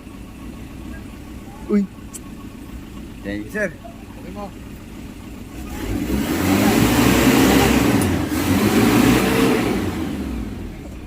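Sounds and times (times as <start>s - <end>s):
car engine revving: 0.8s - 11.0s.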